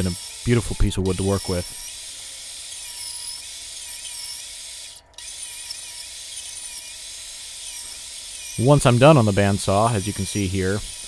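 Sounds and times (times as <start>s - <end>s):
bandsaw cutting wood: 0.0s - 11.0s.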